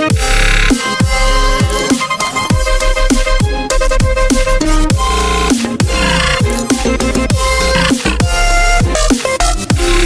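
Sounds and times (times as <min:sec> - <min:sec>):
sustained synth tones: 0:00.0 - 0:08.9
electronic music: 0:00.0 - 0:10.0.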